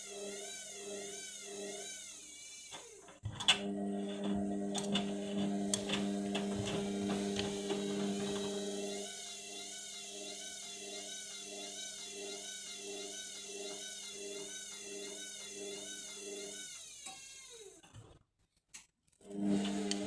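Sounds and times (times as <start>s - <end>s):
washing machine motor whining: 0.0s - 18.0s, 19.2s - 20.0s.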